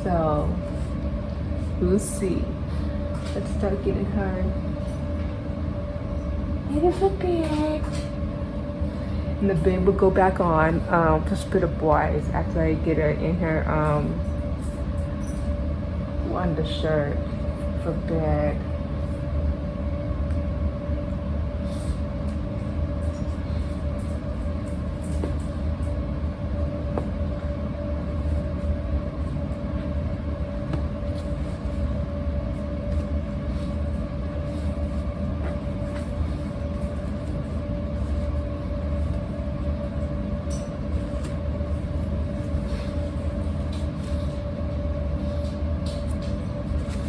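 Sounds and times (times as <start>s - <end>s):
constant whine: 0.0s - 47.0s
mechanical hum with deep rumble: 0.0s - 47.0s.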